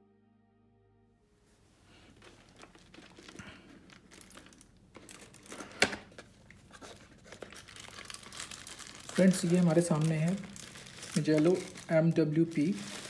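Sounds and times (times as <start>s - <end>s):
plastic shrink-wrap crinkling: 1.8s - 13.0s.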